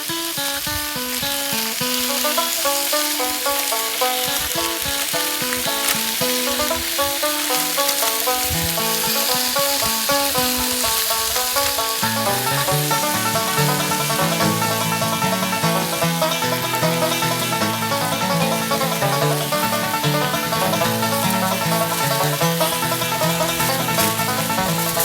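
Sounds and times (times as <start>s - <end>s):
food sizzling in a pan: 0.0s - 25.0s
plucked-string background music: 0.0s - 25.0s.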